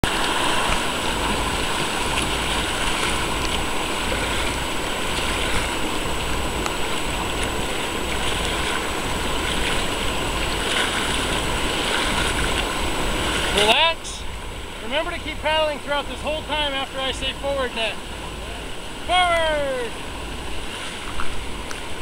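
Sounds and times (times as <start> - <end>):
whitewater rushing: 0.0 - 22.0.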